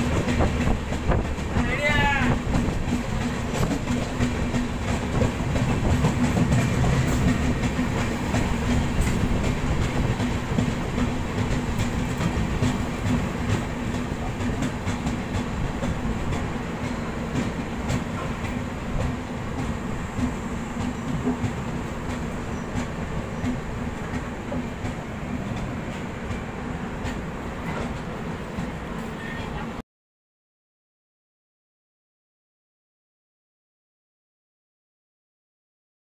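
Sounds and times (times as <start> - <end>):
train rumble and rush: 0.0 - 29.8.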